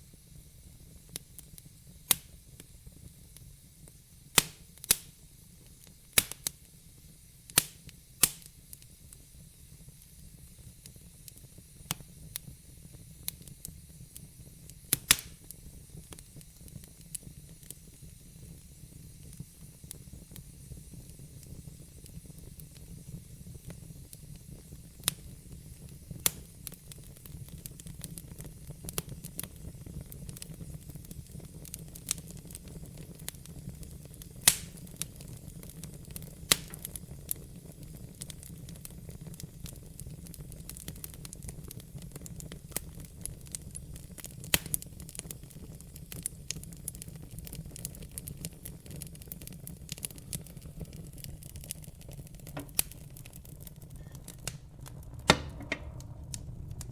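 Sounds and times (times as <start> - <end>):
fire crackles and pops: 0.0 - 56.9
wood fire burning: 0.0 - 56.9.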